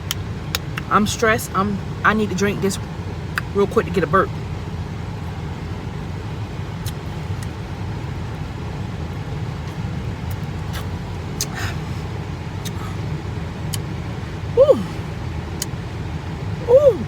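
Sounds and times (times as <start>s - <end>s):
car engine rumble from inside: 0.0s - 17.0s.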